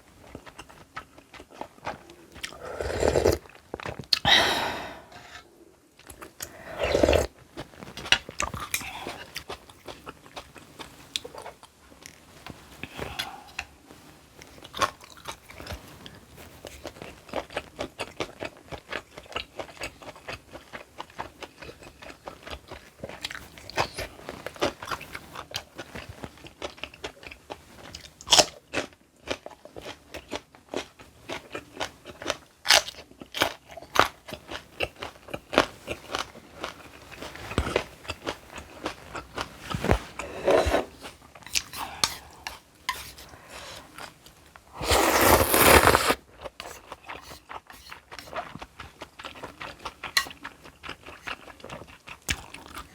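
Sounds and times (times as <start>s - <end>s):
person chewing crunchy food: 0.1s - 11.8s, 14.4s - 52.9s.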